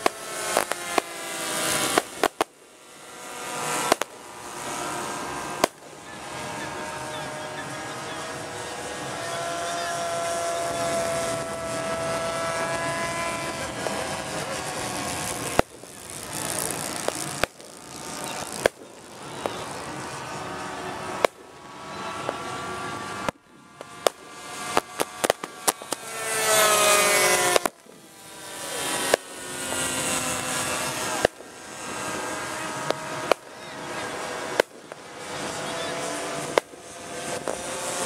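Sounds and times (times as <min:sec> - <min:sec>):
pyrotechnic bangs: 0:00.0 - 0:06.6, 0:12.1 - 0:35.6, 0:36.4 - 0:37.7
model plane engines droning: 0:00.0 - 0:38.0.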